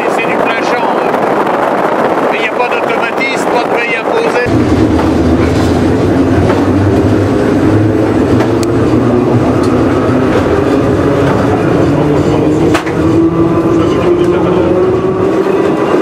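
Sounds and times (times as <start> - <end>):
metro train rumbling: 0.0 - 16.0.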